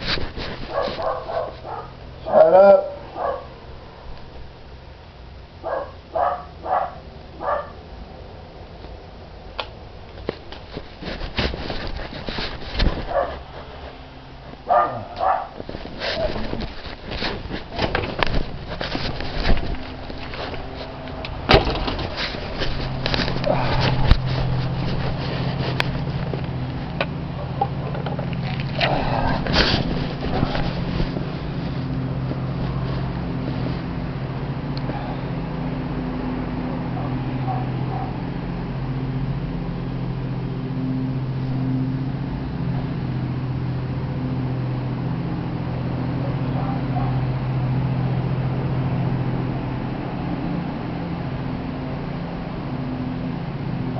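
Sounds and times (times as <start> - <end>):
road noise: 0.0 - 53.9
car engine running: 10.7 - 53.9.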